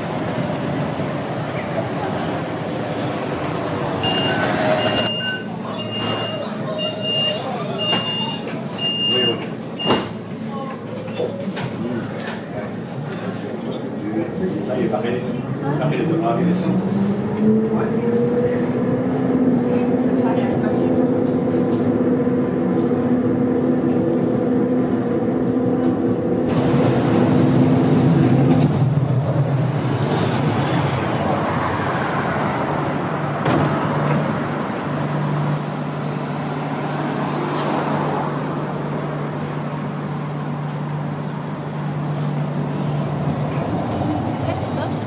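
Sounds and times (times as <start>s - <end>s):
road traffic: 0.0s - 45.0s
tram humming at stop: 0.0s - 45.0s
tram motor whine: 0.0s - 45.0s.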